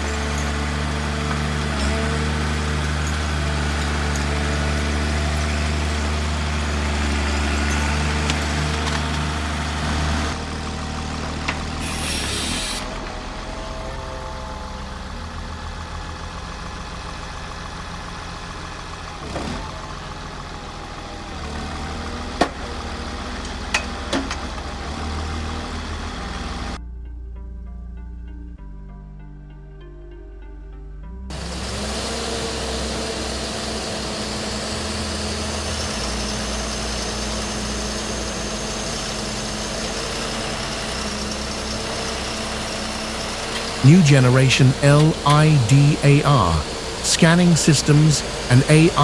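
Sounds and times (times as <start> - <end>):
heavy machine engine running: 0.0 - 26.8, 31.3 - 49.0.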